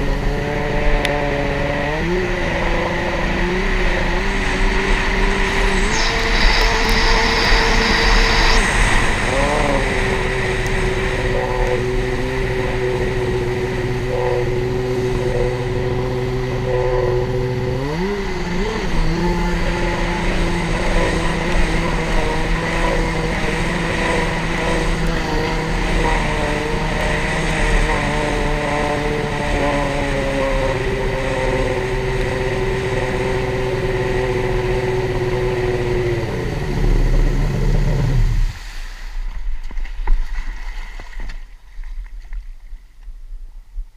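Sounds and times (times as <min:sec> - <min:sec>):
jet ski engine at high revs: 0:00.0 - 0:38.8.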